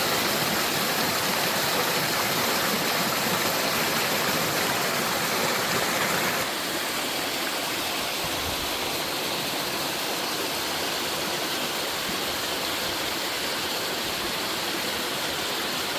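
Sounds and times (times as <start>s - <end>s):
waterfall pouring into stream: 0.0s - 15.9s.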